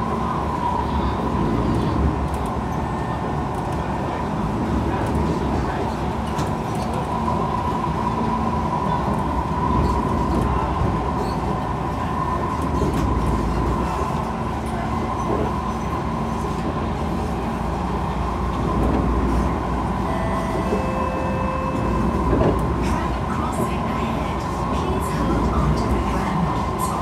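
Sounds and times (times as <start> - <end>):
metro train rumble: 0.0 - 27.0.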